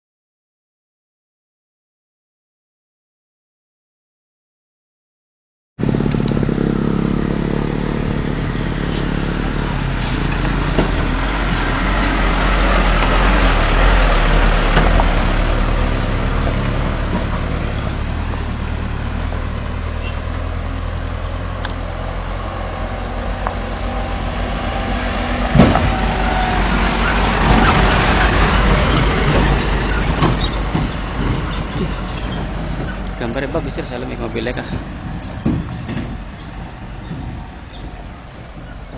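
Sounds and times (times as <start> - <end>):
diesel trucks driving on gravel: 5.8 - 38.9.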